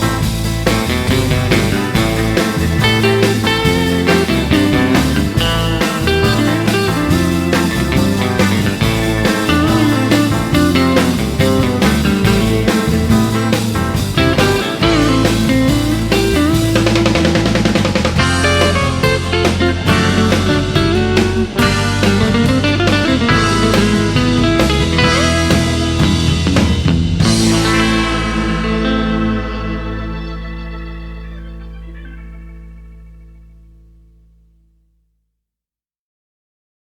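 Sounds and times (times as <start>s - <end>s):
drum kit: 0.0s - 32.8s
electric guitar lead lines: 0.0s - 34.5s
bass guitar: 0.0s - 34.8s.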